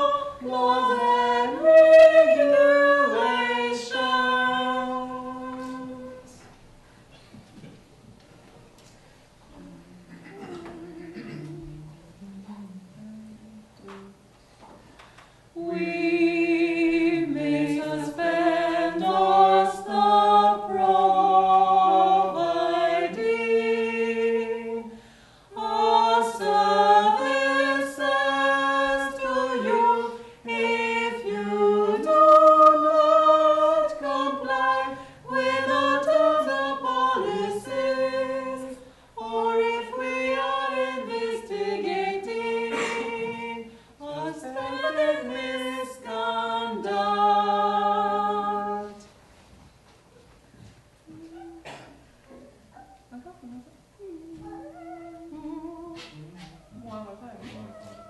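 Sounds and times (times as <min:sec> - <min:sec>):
vocal trio singing a cappella: 0:00.0 - 0:06.5, 0:09.5 - 0:14.2, 0:15.5 - 0:49.2, 0:52.7 - 0:58.0.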